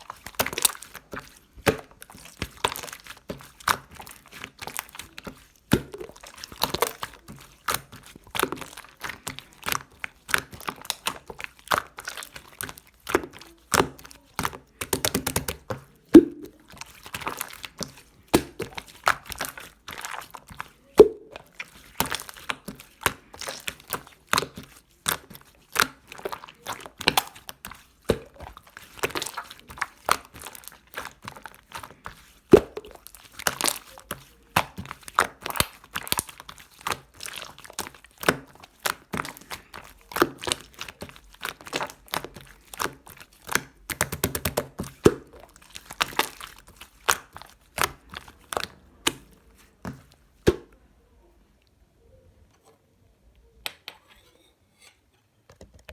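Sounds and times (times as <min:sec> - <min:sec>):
slime squished by hand: 0:00.0 - 0:50.9.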